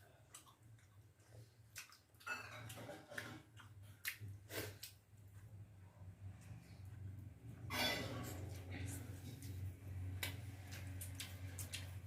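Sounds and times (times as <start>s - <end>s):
person chewing food: 0.0s - 7.0s, 8.3s - 12.0s.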